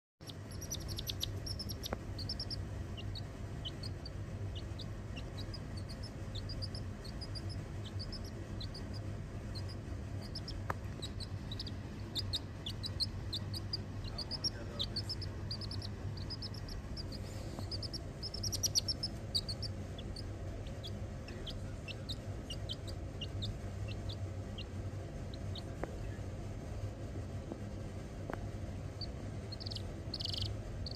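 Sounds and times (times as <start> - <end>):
chick peeping: 0.2 - 25.9, 28.9 - 30.9
low steady hum: 0.2 - 30.9.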